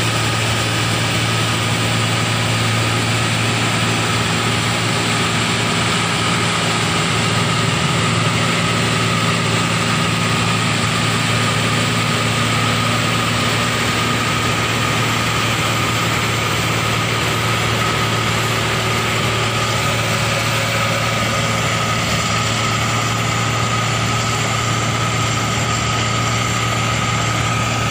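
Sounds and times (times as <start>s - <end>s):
combine harvester running: 0.0s - 27.9s.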